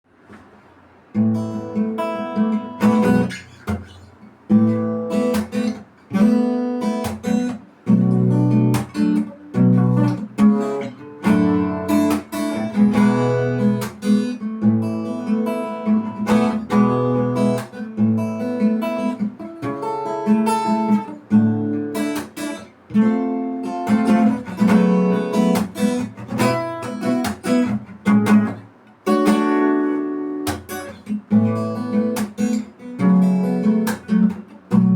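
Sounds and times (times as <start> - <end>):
acoustic guitar strumming: 0.1 - 34.9.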